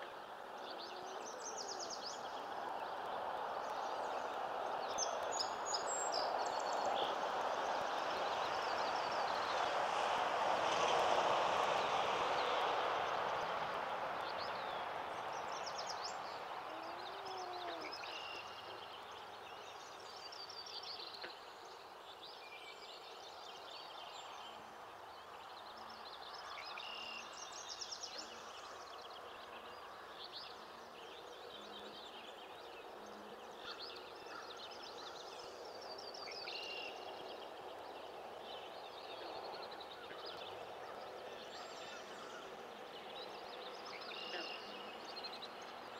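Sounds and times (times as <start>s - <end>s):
songbirds singing: 0.0s - 9.7s, 14.2s - 45.9s.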